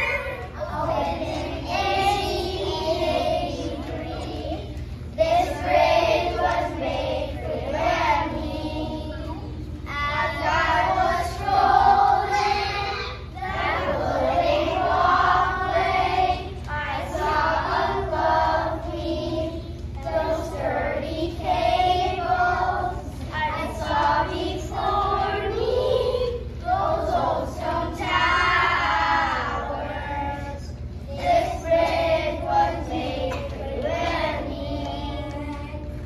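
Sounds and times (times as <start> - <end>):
children's choir singing: 0.0 - 36.0.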